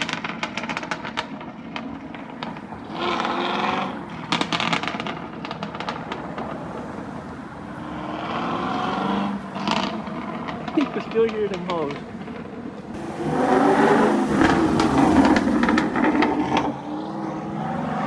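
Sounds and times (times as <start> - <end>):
car engine revving: 0.0 - 18.0
exhaust crackles and pops: 0.0 - 18.0.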